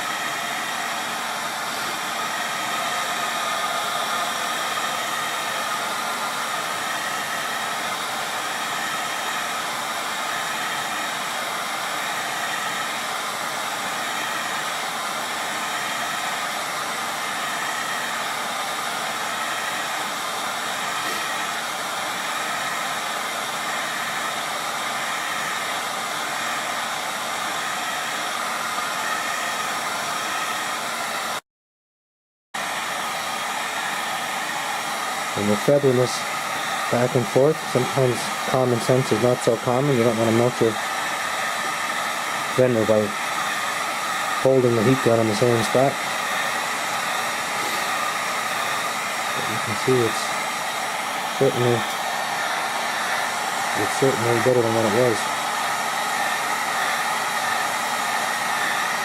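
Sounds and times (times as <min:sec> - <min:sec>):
heat gun blowing hot air: 0:00.0 - 0:31.4, 0:32.6 - 0:59.0.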